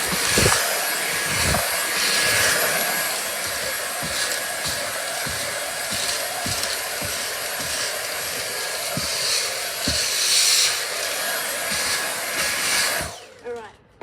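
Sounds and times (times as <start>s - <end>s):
vacuum cleaner running: 0.0s - 13.4s.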